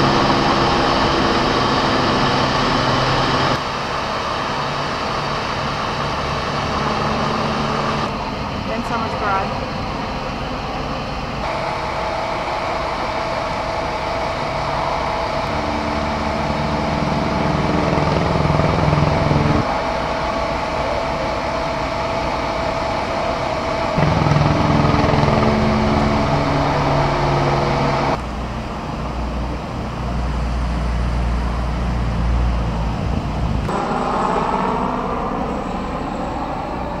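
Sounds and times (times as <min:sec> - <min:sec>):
engines idling: 0:00.0 - 0:37.0.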